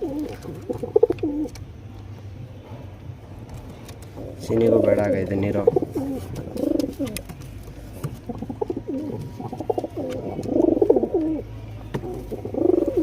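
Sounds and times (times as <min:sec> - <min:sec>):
pigeons cooing: 0:00.0 - 0:01.6, 0:04.0 - 0:13.0.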